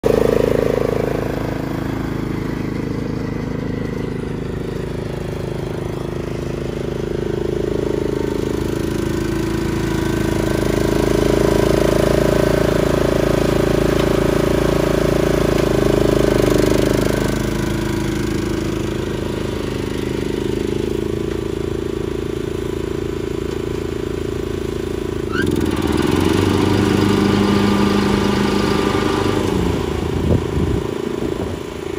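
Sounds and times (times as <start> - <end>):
riding lawn mower engine running: 0.0 - 31.9.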